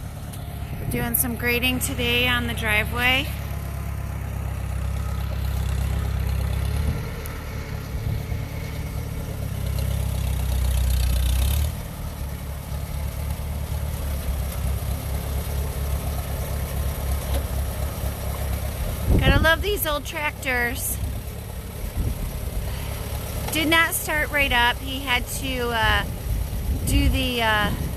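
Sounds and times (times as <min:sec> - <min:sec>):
tractor engine running: 0:00.0 - 0:27.9.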